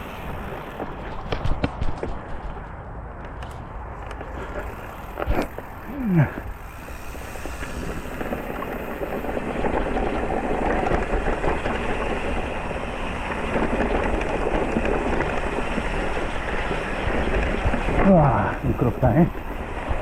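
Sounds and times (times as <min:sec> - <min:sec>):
electric mountain bike riding: 0:00.0 - 0:20.0
tyres on a rough trail: 0:00.0 - 0:20.0.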